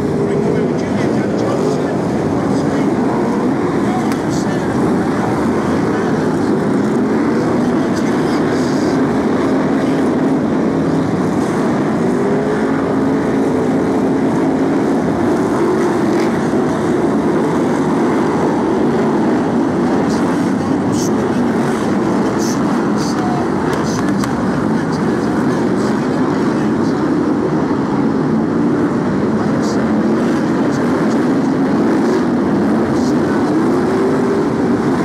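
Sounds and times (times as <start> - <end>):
racing car engines roaring: 0.0 - 35.0.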